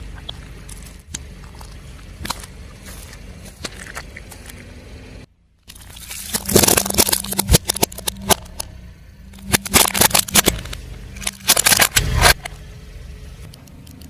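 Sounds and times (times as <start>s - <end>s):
car engine running: 0.0s - 14.0s
tyre crushing brittle objects: 0.2s - 4.8s, 5.7s - 12.5s.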